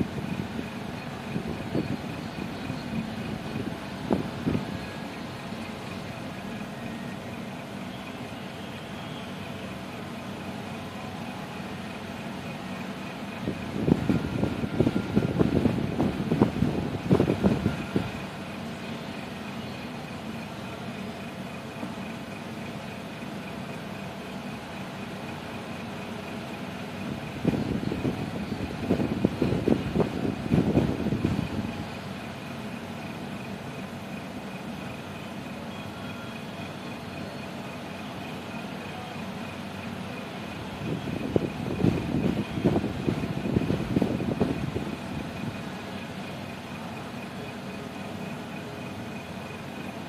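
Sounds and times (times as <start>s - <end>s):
low mechanical hum: 0.0s - 50.0s.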